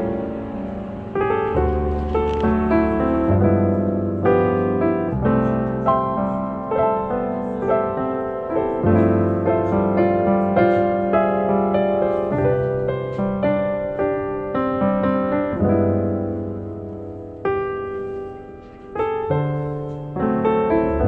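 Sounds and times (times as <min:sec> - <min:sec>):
piano music with bass line: 0:00.0 - 0:21.0.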